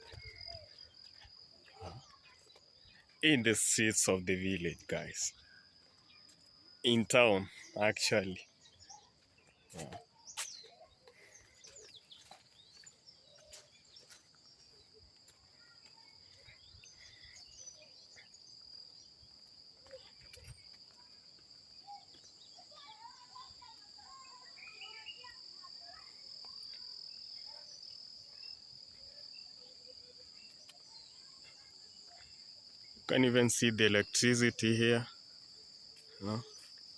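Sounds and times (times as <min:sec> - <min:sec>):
crickets trilling: 0:00.0 - 0:36.9.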